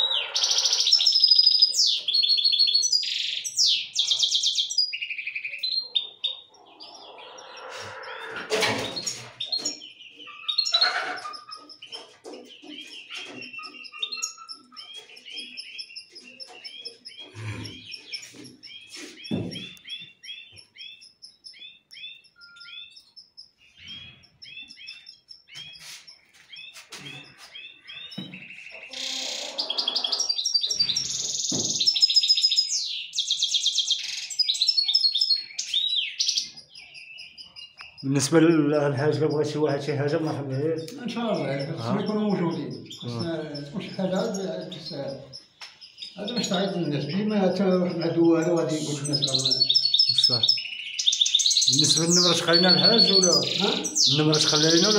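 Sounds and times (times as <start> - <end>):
finches singing and chirping: 0.0 - 54.9.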